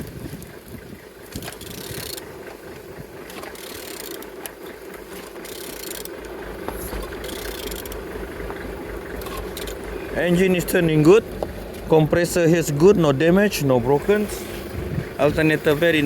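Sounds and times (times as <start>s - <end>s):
engine ratcheting and clicking: 0.4s - 16.0s.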